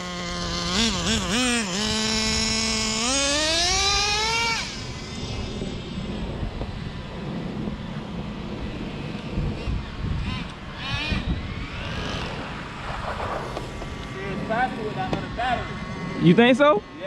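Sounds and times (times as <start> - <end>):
faint wind and street noise: 0.0 - 17.0
small nitro engine revving: 0.0 - 17.0.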